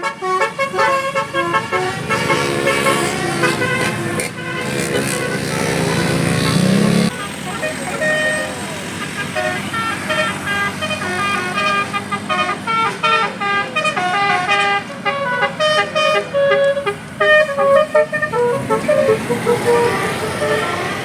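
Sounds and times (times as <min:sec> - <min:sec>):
musical bus horn tune: 0:00.0 - 0:21.0.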